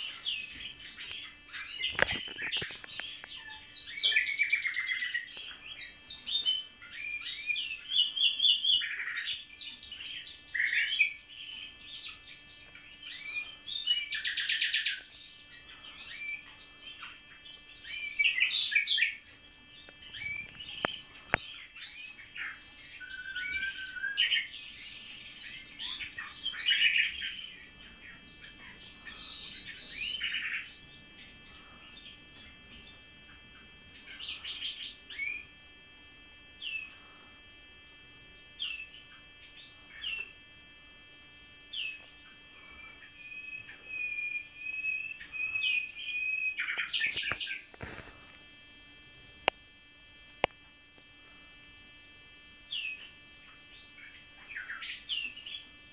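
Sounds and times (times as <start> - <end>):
songbirds singing: 0.0 - 48.8, 51.7 - 55.9.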